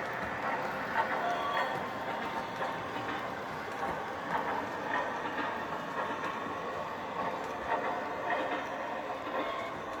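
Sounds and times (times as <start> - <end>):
model train running on track: 0.0 - 10.0.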